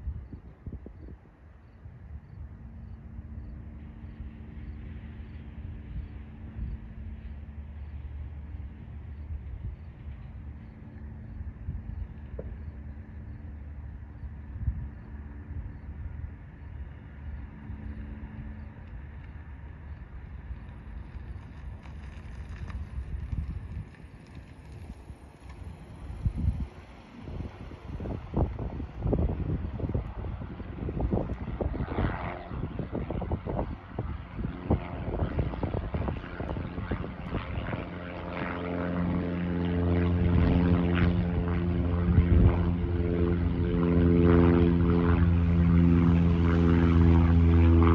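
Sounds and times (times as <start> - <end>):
propeller plane engine droning: 0.0 - 47.9
wind rumbling on microphone: 0.0 - 47.9.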